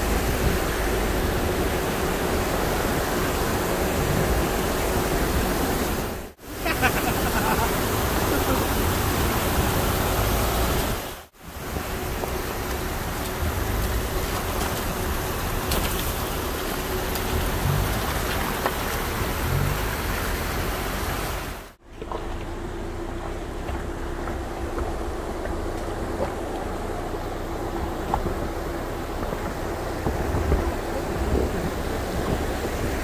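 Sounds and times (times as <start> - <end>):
rushing creek water: 0.0 - 33.0
vehicle driving on dirt road: 0.0 - 33.0.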